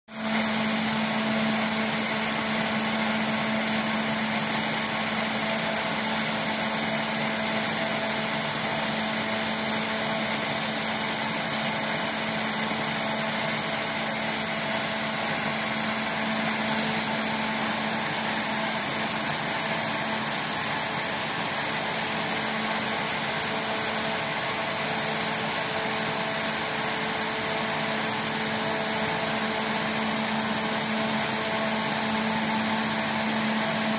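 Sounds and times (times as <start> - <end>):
machine hum: 0.2 - 33.9.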